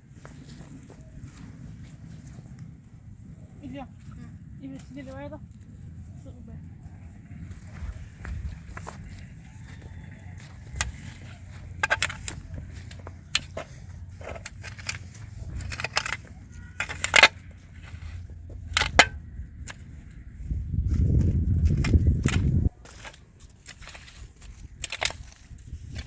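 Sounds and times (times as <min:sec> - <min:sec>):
deep rumble: 0:00.0 - 0:26.0
steady low rumble: 0:00.0 - 0:26.0.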